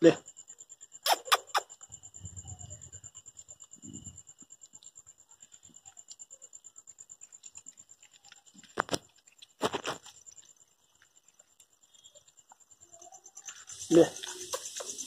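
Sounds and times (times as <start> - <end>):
insect chirping: 0.0 - 15.0
cats licking and chewing: 1.4 - 15.0.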